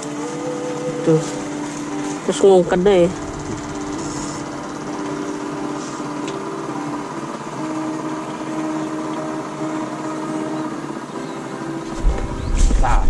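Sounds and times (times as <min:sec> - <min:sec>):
distant engine droning: 0:00.0 - 0:13.0.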